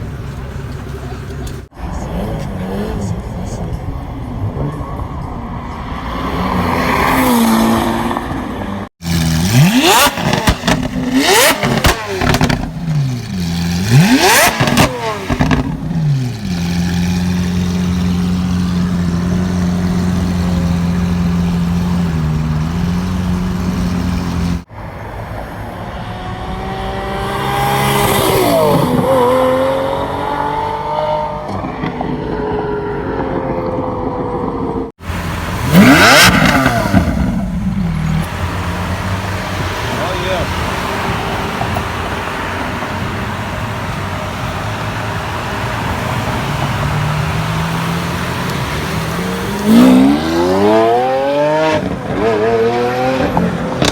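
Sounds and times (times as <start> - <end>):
car engine blipped hard: 0.0 - 53.9
car engine revving: 0.0 - 53.9
car accelerating past: 1.9 - 24.7, 25.4 - 53.9.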